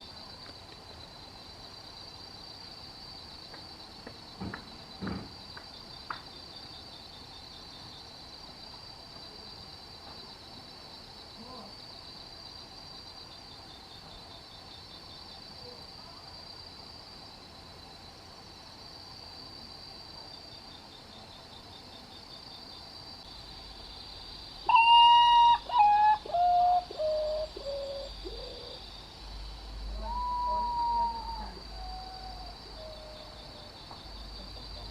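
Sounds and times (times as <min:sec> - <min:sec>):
night insect chorus: 0:00.0 - 0:34.9.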